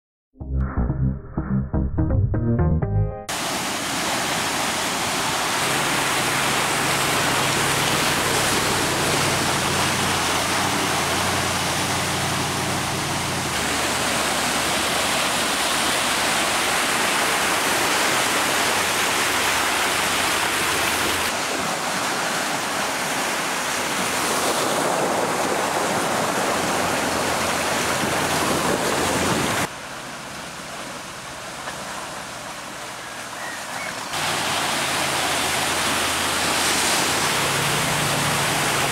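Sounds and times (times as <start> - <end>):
water rushing and splashing: 3.3 - 38.9.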